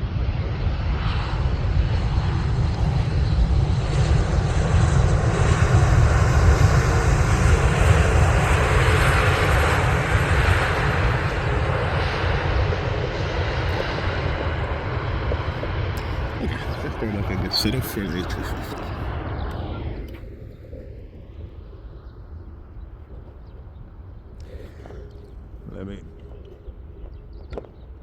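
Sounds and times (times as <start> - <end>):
jet airliner rumble passing: 0.0 - 28.0.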